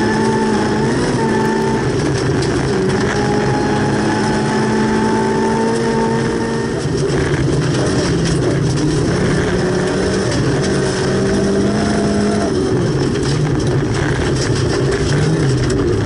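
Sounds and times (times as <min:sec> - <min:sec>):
car engine at high revs: 0:00.0 - 0:16.0
tyres on gravel: 0:00.0 - 0:16.0.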